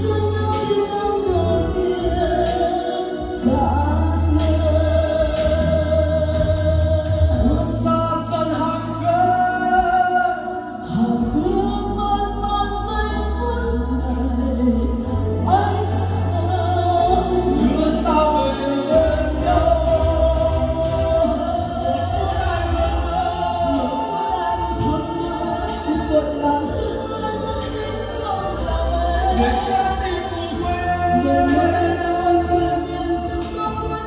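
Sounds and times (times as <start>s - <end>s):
backing track with pulsing bass: 0.0s - 34.0s
woman singing into a microphone: 0.0s - 34.0s.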